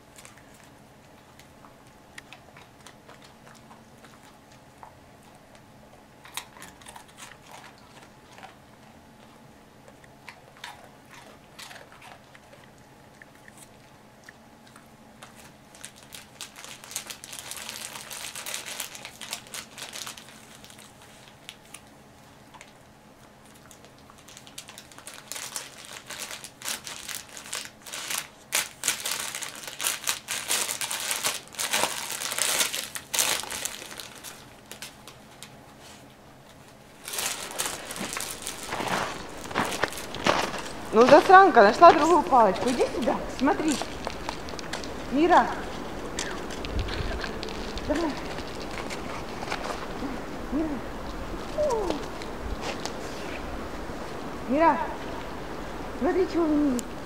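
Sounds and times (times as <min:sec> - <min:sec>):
puppy chewing plastic bag: 0:00.0 - 0:54.3.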